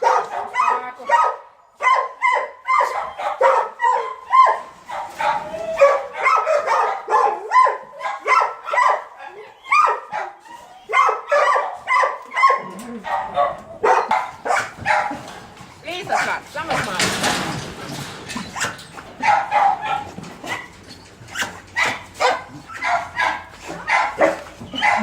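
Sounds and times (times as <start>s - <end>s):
dogs barking: 0.0s - 25.0s.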